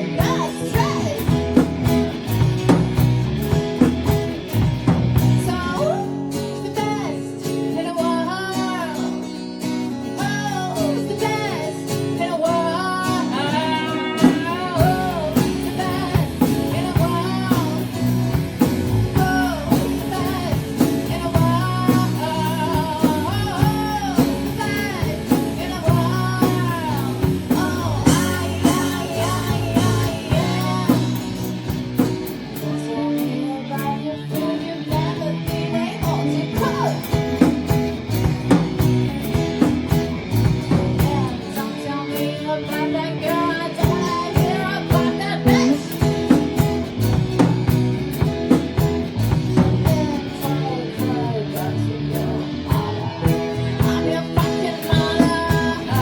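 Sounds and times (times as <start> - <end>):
person singing with vibrato: 0.0 - 2.0, 5.4 - 39.6, 40.7 - 56.0
bass and drums: 0.0 - 56.0
guitar: 0.0 - 56.0.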